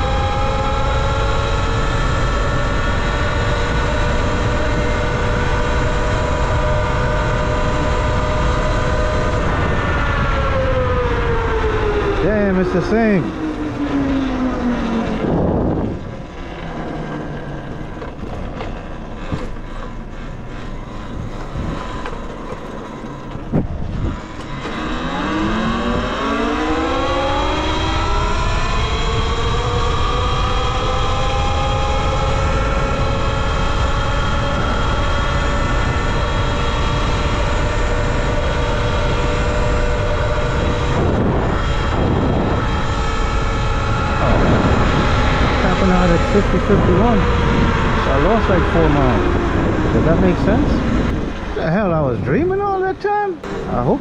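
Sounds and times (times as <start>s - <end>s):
wind rushing: 0.0s - 18.0s, 20.0s - 54.0s
electric motor and chain whining: 0.0s - 52.7s.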